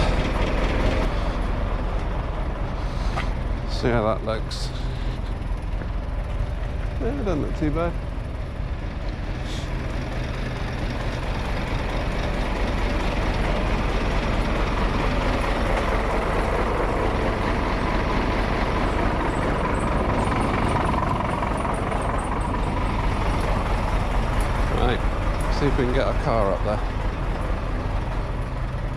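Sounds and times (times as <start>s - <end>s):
truck diesel engine running: 0.0s - 28.9s.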